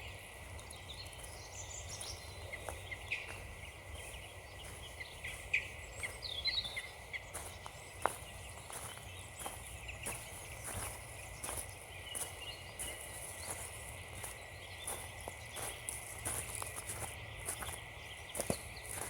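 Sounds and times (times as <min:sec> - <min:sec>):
small birds chirping: 0:00.0 - 0:19.0
footsteps crunching on frozen ground: 0:00.3 - 0:19.0.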